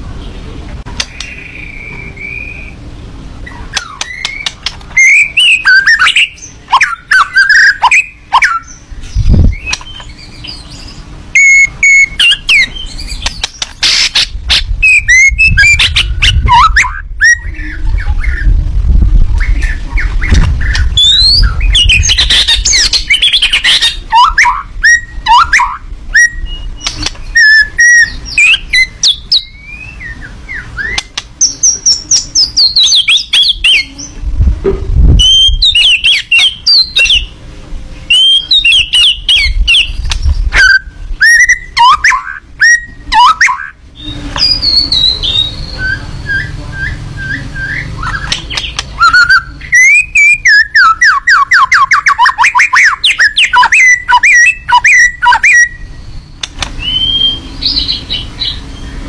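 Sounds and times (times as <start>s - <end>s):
songbird singing whistled phrases: 1.0s - 2.8s, 3.4s - 18.5s, 19.4s - 34.2s, 35.1s - 37.4s, 38.1s - 59.0s.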